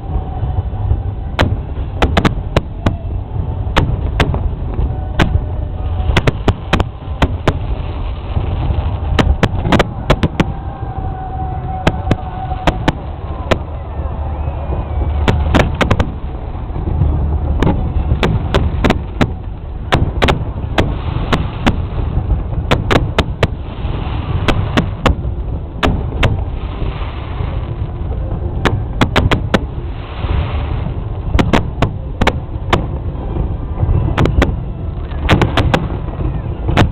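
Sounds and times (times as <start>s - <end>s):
fireworks bangs: 0.0s - 36.9s
fireworks crackling: 0.0s - 36.9s
steady low rumble: 0.0s - 36.9s.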